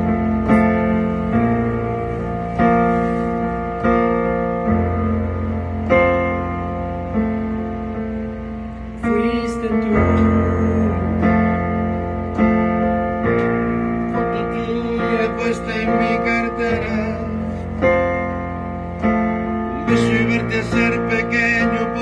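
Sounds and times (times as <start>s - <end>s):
slow guitar and keyboard chords: 0.0s - 22.0s.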